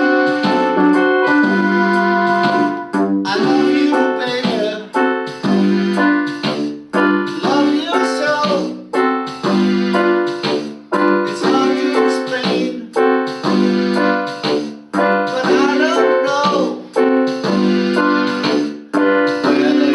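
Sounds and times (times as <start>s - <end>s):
electronic keyboard chords: 0.0s - 19.9s.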